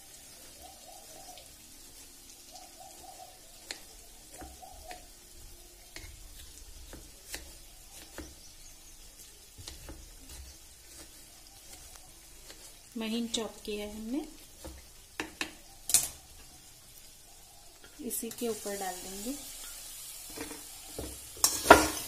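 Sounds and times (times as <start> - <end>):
frying oil sizzling: 0.0 - 22.0.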